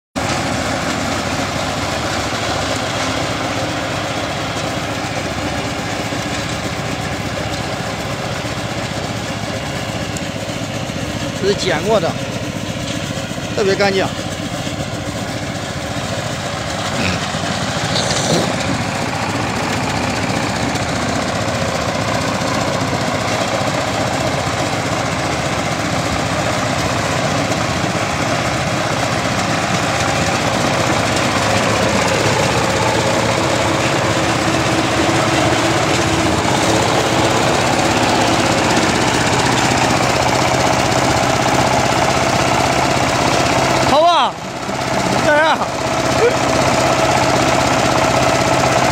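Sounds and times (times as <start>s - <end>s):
straw baler running: 0.2s - 48.9s
tractor engine: 0.2s - 48.9s.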